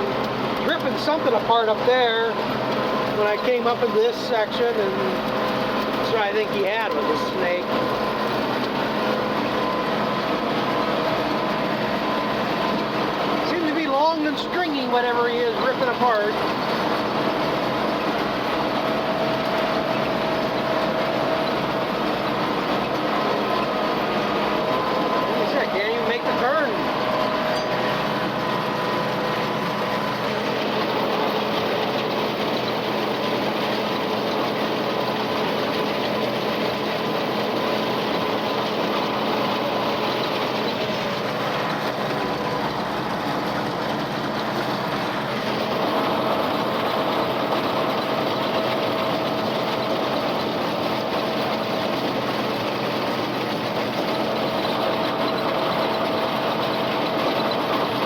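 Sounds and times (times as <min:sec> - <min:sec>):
tractor machinery drone: 0:00.0 - 0:58.0.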